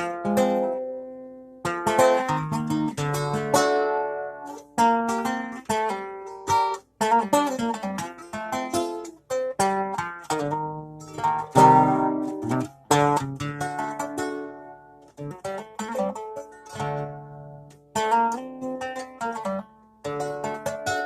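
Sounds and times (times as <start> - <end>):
plucked guitar-like string instrument: 0.0 - 21.0.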